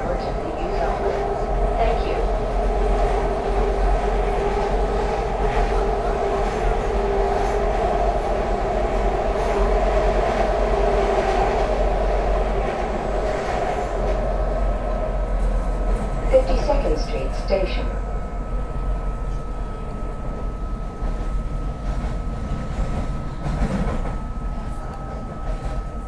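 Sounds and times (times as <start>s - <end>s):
train wheels on rail: 0.0s - 26.0s.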